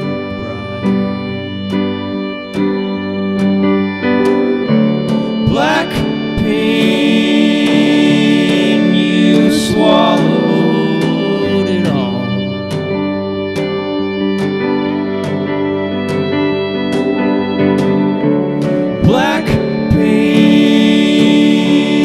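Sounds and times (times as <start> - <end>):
live band playing instrumental: 0.0 - 22.0
sliding bending guitar notes: 0.0 - 22.0.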